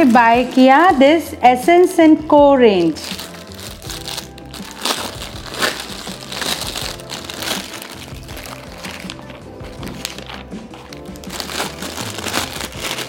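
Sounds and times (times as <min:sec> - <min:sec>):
plastic wrap crinkling: 0:00.0 - 0:01.0, 0:02.7 - 0:13.0
background music: 0:00.0 - 0:13.0.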